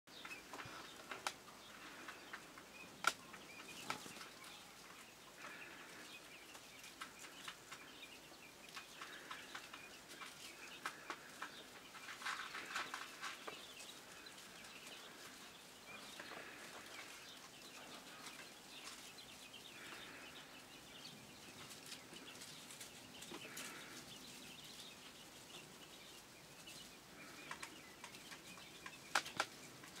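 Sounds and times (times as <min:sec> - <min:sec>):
chicks peeping: 0:00.1 - 0:30.0.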